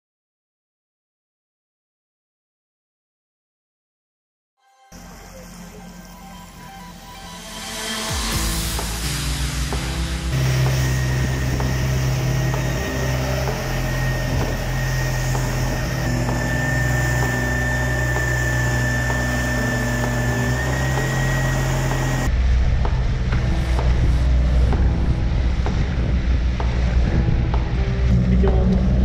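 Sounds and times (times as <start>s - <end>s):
droning synth music: 4.6s - 29.0s
motorboat running at speed: 5.0s - 29.0s.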